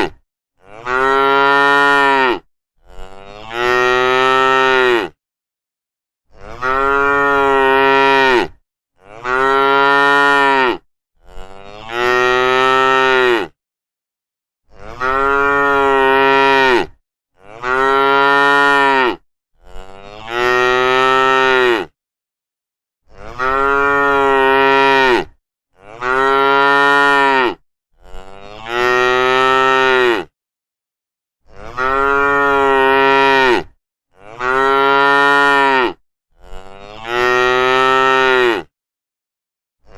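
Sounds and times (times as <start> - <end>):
cow mooing: 0.0 - 5.2, 6.3 - 13.6, 14.7 - 21.9, 23.1 - 30.3, 31.5 - 38.7.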